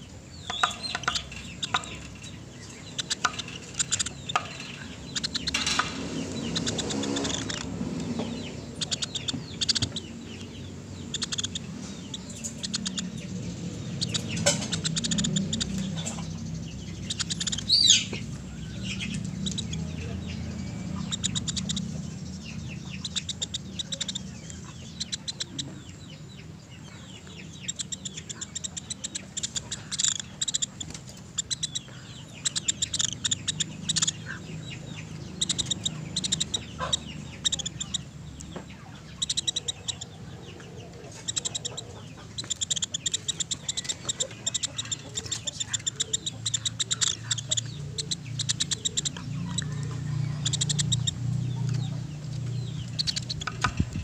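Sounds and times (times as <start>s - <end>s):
woodpecker chattering calls: 0.0s - 54.0s.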